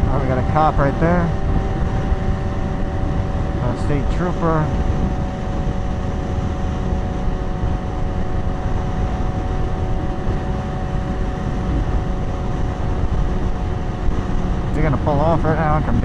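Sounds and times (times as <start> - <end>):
motorcycle engine cruising: 0.0 - 16.0
wind rushing over microphone: 0.0 - 16.0.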